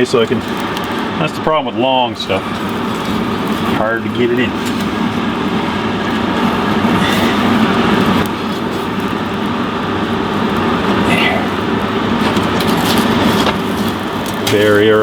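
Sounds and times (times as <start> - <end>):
forge rushing noise: 0.0 - 15.0.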